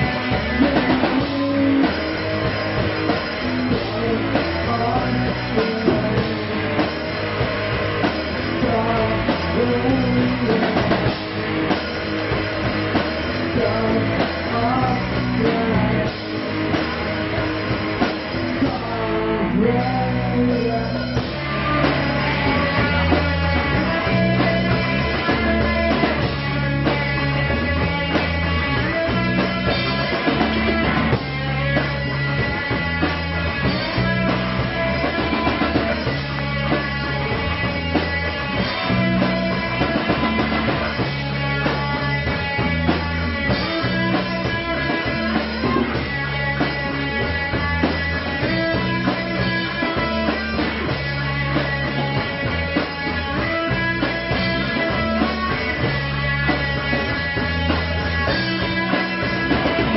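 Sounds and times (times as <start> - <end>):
bass guitar: 0.0 - 59.9
rock band playing live: 0.0 - 59.9
steady drumming: 0.0 - 59.9.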